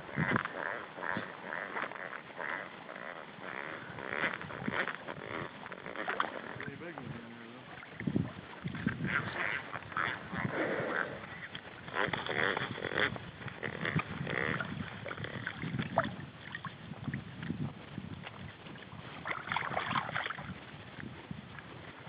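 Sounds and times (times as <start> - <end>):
water sloshing around boat: 0.0 - 22.0.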